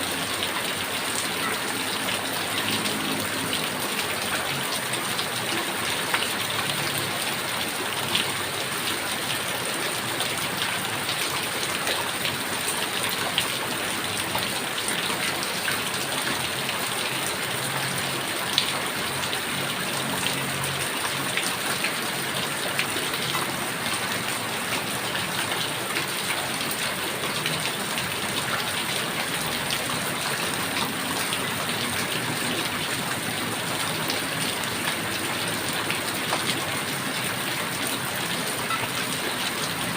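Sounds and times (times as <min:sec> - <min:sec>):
heavy rain falling: 0:00.0 - 0:39.9
raindrops ticking on a surface: 0:00.0 - 0:39.9.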